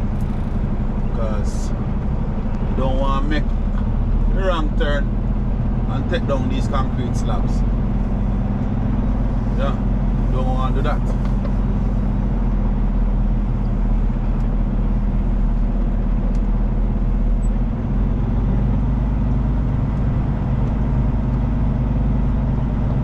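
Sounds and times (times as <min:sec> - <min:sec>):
truck diesel engine drone: 0:00.0 - 0:23.0.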